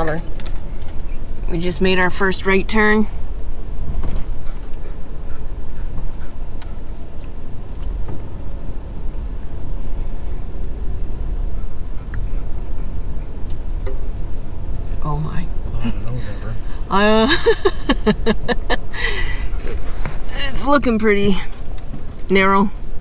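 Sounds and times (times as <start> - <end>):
truck engine and tyres rumbling: 0.0 - 23.0.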